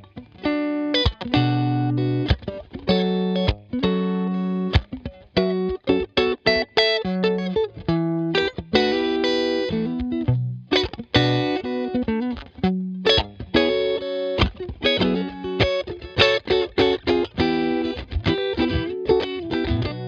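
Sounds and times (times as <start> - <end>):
guitar playing notes and chords: 0.0 - 20.0.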